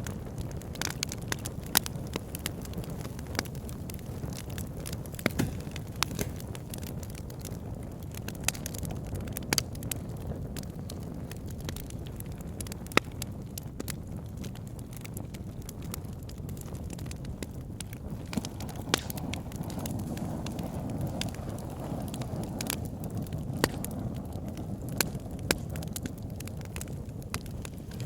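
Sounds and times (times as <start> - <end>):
crackles and pops of burning logs: 0.0 - 28.0
low rumble of flames: 0.0 - 28.0.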